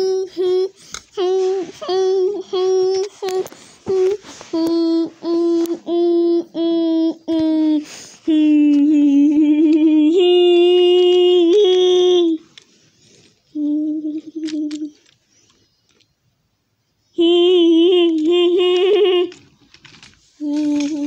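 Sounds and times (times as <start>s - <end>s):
child humming: 0.0s - 12.4s, 13.5s - 15.1s, 17.1s - 19.4s, 20.4s - 21.0s.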